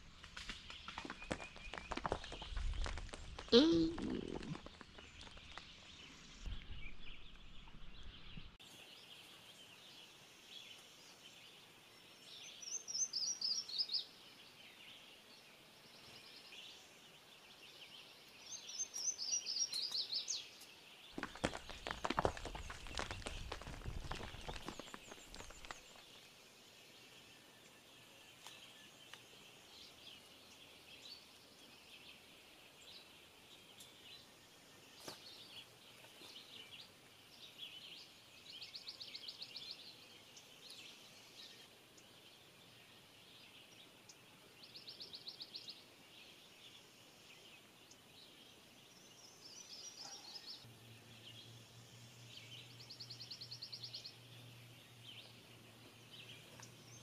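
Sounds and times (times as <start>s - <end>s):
songbirds chirping and trilling: 4.4s - 57.0s.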